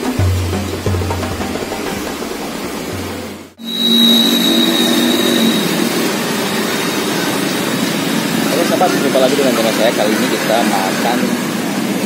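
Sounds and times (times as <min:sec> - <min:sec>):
thin high whine: 0:00.0 - 0:11.5
traffic noise: 0:00.0 - 0:12.0.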